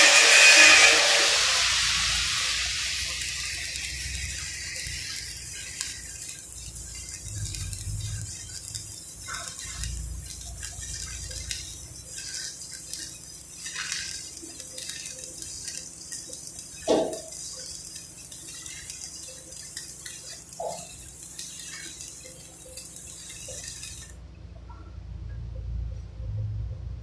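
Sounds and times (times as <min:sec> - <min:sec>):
welding arc hissing and crackling: 0:00.0 - 0:24.2.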